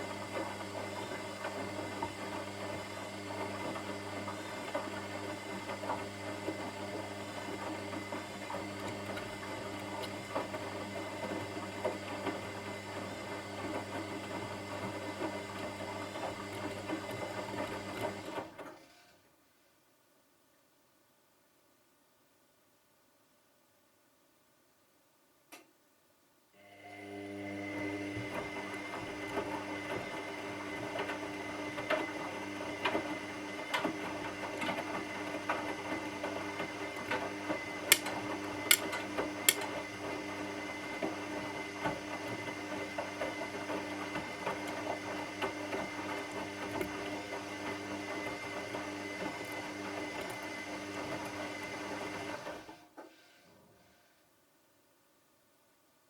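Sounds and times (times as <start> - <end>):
washing machine motor hum: 0.0 - 18.6, 26.6 - 52.8.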